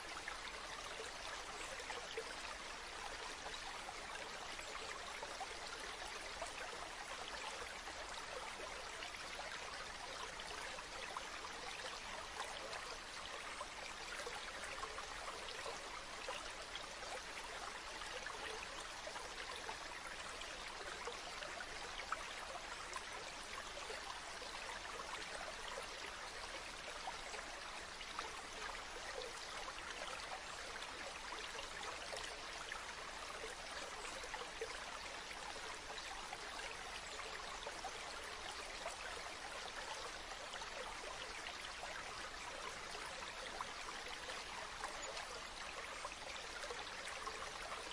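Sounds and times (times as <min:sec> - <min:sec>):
stream babbling: 0:00.0 - 0:47.9.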